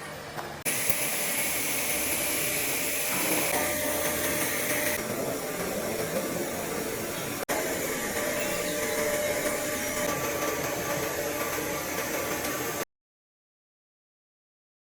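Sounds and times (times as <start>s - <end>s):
welding arc hissing: 0.7s - 12.8s.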